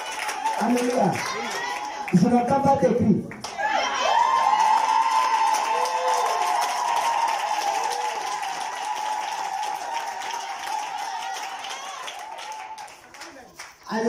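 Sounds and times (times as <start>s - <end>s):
congregation clapping: 0.0s - 2.6s, 3.3s - 14.0s.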